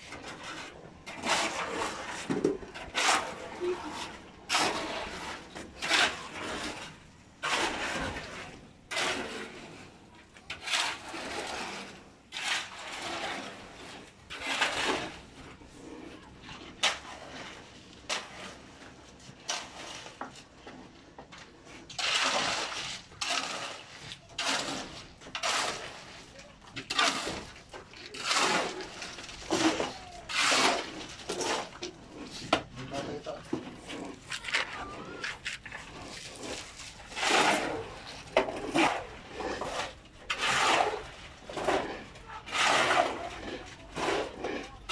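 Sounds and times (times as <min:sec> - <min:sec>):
shovel scraping wet concrete: 0:00.0 - 0:44.9.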